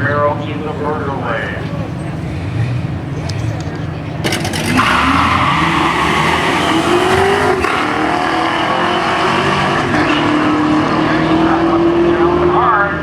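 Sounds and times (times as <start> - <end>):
drag cars accelerating: 0.0 - 13.0.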